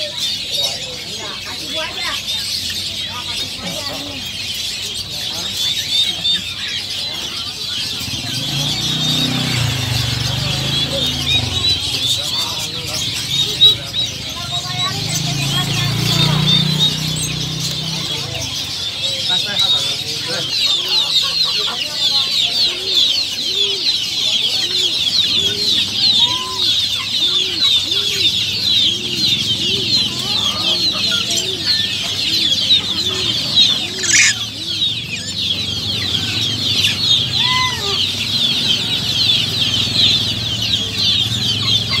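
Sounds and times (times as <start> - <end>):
repeated low bird call: 0.0 - 42.0
small birds chirping: 0.0 - 42.0.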